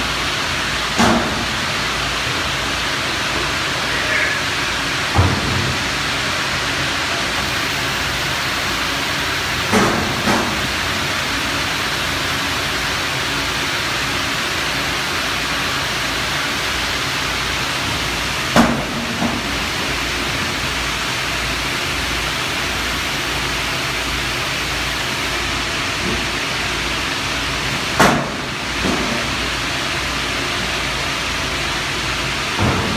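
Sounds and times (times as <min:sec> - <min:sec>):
loud industrial roar: 0:00.0 - 0:32.9.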